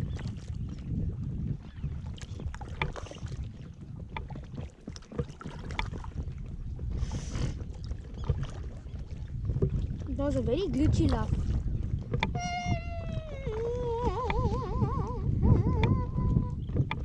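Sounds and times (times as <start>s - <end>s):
paddle strokes in water: 0.0s - 17.0s
wind rumble on microphone: 0.0s - 17.0s.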